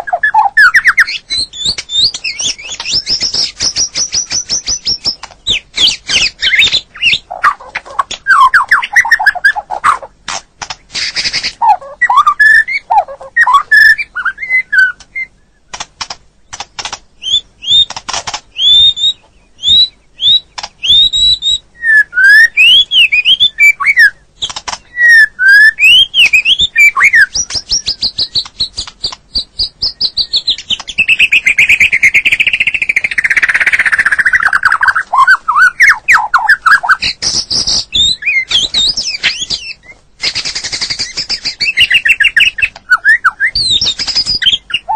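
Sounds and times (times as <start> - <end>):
bird singing whistled song: 0.0 - 10.0, 11.0 - 15.8, 16.5 - 44.9.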